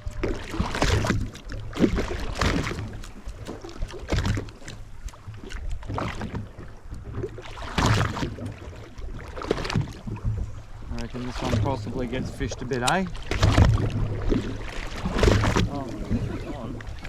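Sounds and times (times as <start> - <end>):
water washing: 0.0 - 6.6, 7.4 - 17.0
boat engine low hum: 0.0 - 17.0
wind: 0.0 - 17.0.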